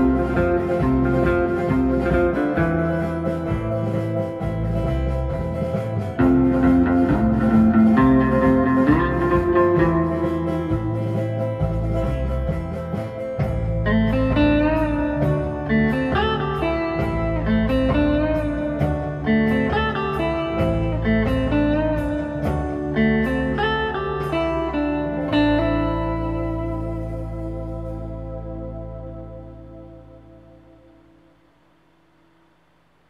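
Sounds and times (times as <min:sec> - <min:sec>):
bass line: 0:00.0 - 0:31.5
plucked guitar melody: 0:00.0 - 0:31.6.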